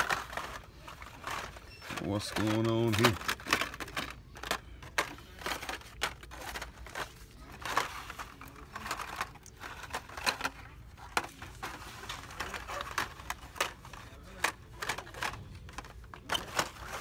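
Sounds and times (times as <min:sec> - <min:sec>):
plastic packaging clacks and crinkles: 0:00.0 - 0:17.0.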